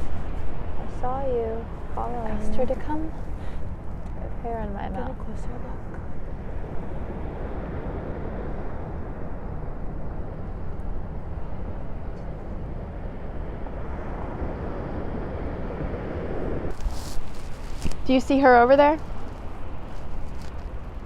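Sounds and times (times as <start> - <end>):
outdoor rushing noise: 0.0 - 21.0.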